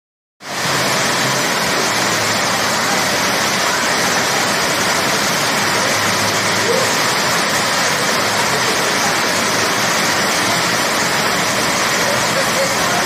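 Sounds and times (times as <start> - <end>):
heavy rain pouring: 0.4 - 13.0.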